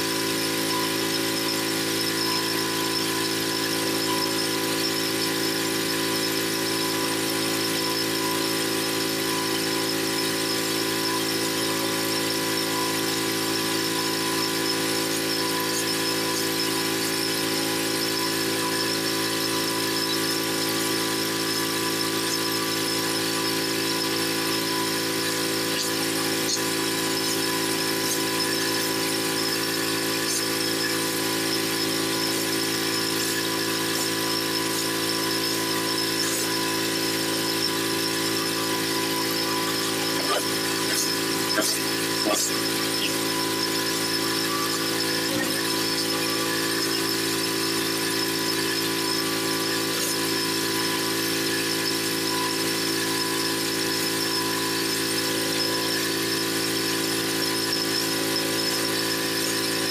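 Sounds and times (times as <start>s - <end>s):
pressure washer whine: 0.0s - 59.9s.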